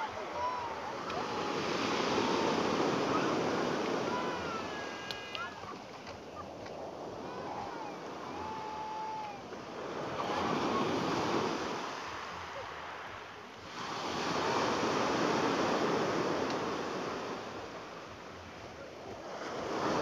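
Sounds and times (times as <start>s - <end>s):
waves washing on pebble beach: 0.0s - 20.0s.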